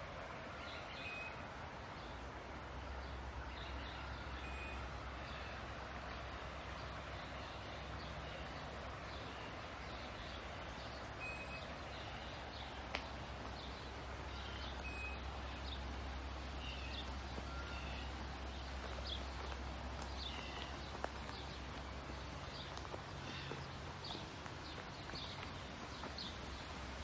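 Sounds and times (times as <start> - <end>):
birds chirping: 2.9 - 27.0.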